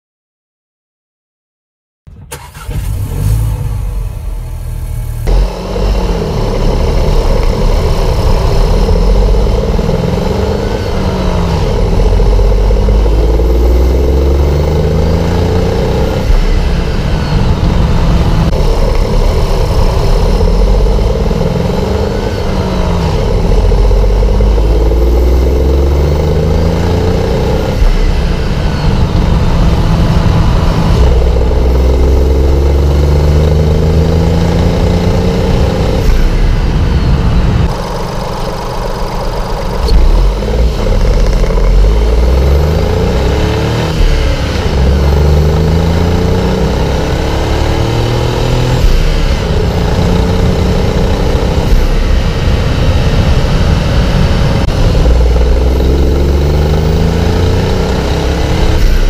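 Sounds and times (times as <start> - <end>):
car engine revving: 2.1 - 59.0.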